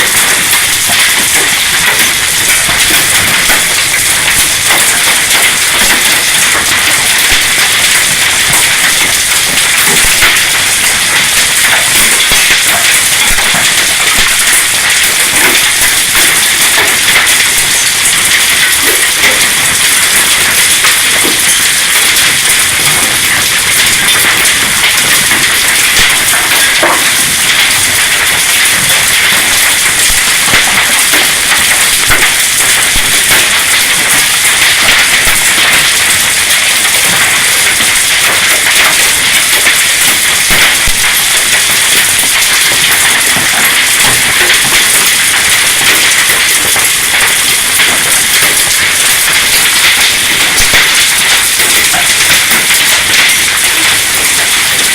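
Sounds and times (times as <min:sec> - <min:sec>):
hail pelting down: 0:00.0 - 0:54.9.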